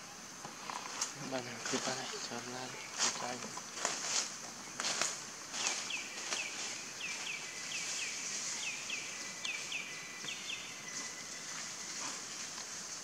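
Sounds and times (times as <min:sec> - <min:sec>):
insects droning: 0:00.0 - 0:13.0
bird chirping: 0:01.2 - 0:12.9.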